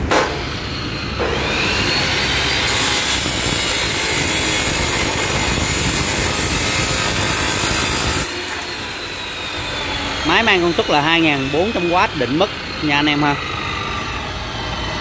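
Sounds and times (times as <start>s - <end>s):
abrasive disc grinding steel: 0.4s - 15.0s
saw motor whine: 0.4s - 15.0s.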